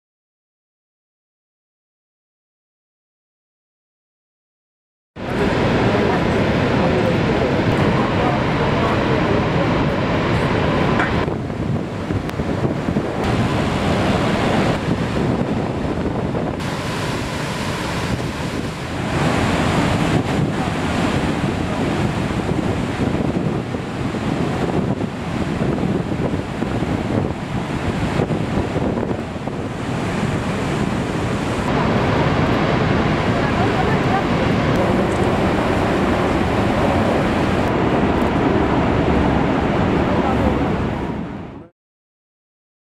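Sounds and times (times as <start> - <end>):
waterfall roaring: 5.2 - 41.4
wind buffeting microphone: 5.2 - 41.5.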